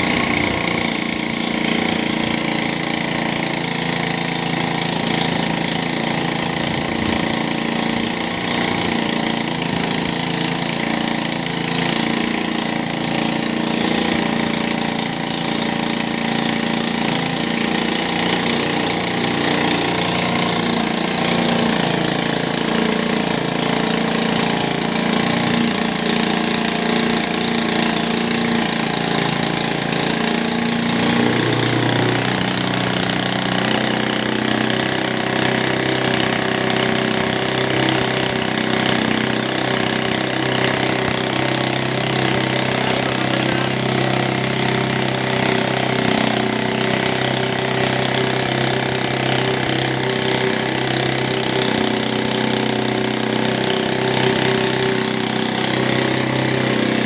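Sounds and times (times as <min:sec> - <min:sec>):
air compressor pump working: 0:00.0 - 0:57.0
motorcycle engine running: 0:00.0 - 0:57.0.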